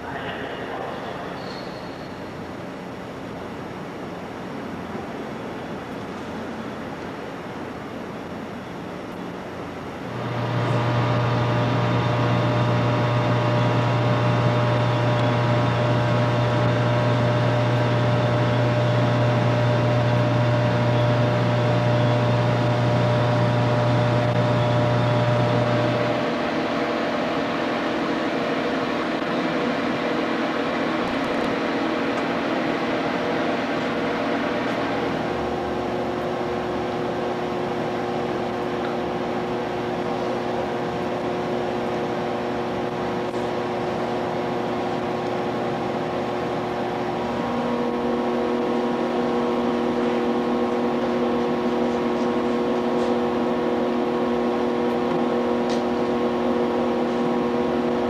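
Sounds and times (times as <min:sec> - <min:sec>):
low electrical hum: 0:00.0 - 0:58.0
steady whining tones: 0:09.9 - 0:58.0.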